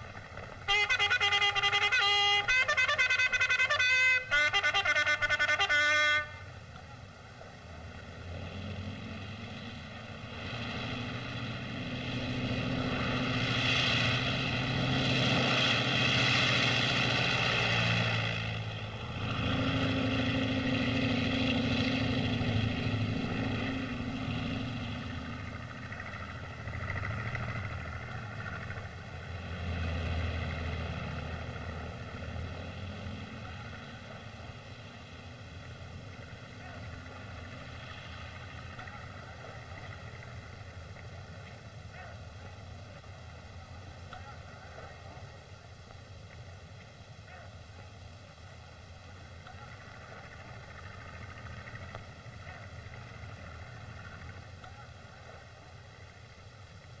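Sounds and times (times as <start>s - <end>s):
droning engine: 0.0s - 57.0s.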